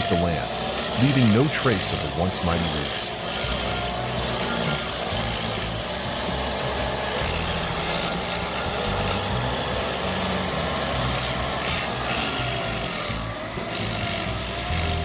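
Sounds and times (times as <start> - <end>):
cutter wheel grinding wood: 0.0 - 15.0
stump grinder engine rumbling: 0.0 - 15.0.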